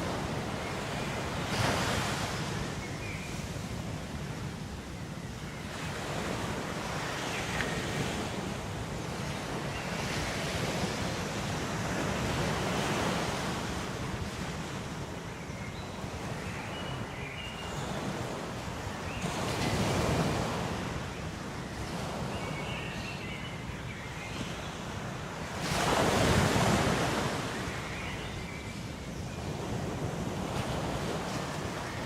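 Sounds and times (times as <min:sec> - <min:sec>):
ocean waves washing onto shore: 0:00.0 - 0:32.0.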